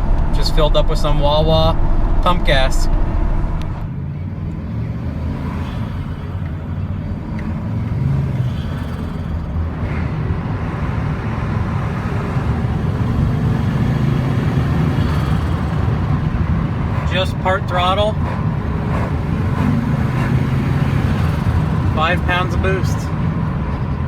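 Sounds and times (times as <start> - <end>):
road noise: 0.0 - 24.0
truck engine cruising: 0.0 - 24.0.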